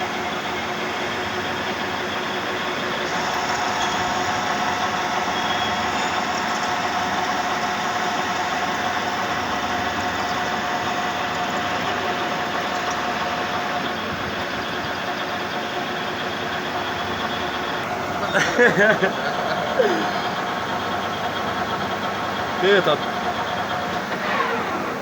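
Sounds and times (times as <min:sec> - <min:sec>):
metal lathe running: 0:00.0 - 0:25.0
constant whine: 0:01.0 - 0:25.0.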